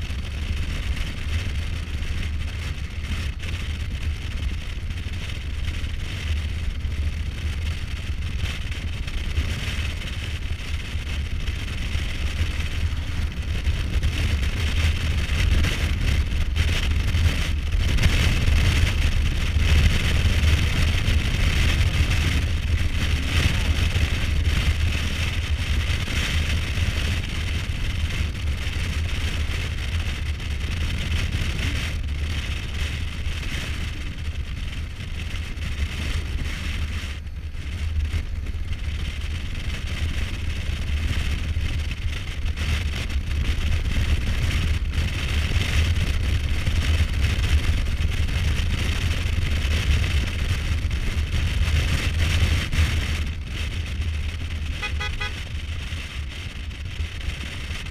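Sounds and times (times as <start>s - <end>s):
motorcycle engine and tyre noise: 0.0s - 57.9s
wind rush on microphone: 0.0s - 57.9s.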